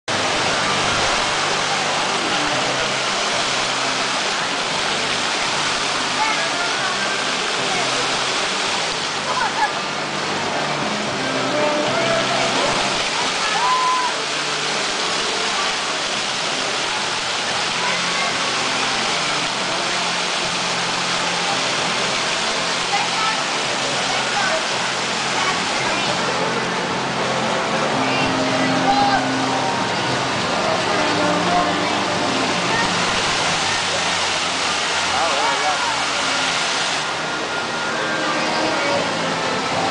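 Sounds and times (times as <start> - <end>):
fountain water splashing into pool: 0.1 - 39.9.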